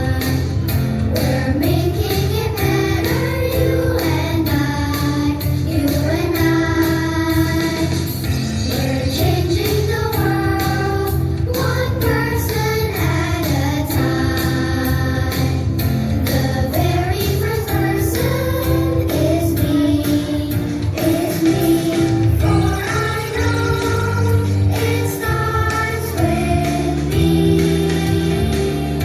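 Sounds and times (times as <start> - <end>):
song with vocals and beat: 0.0 - 29.0.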